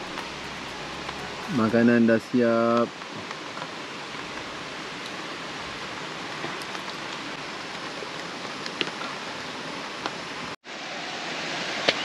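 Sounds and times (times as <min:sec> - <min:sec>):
raindrops striking close by: 0:00.0 - 0:10.5
steady rain hiss: 0:00.0 - 0:12.0.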